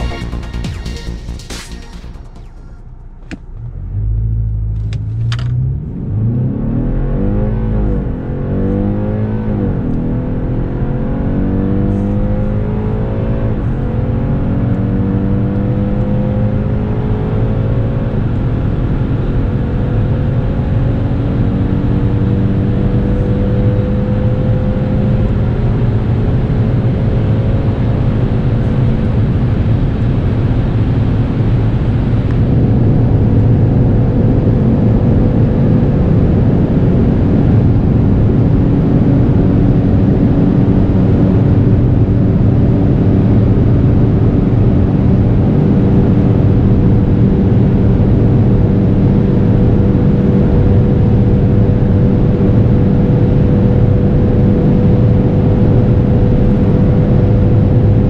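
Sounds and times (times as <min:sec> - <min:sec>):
car engine at full throttle: 0:00.0 - 0:58.0
road and wind noise: 0:01.6 - 0:58.0.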